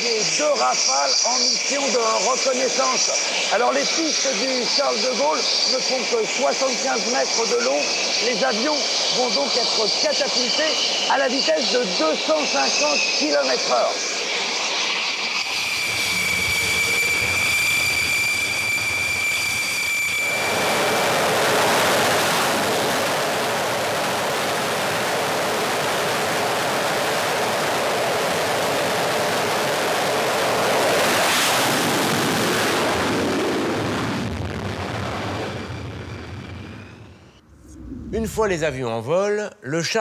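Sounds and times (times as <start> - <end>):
jet engines whining and roaring: 0.0 - 38.8.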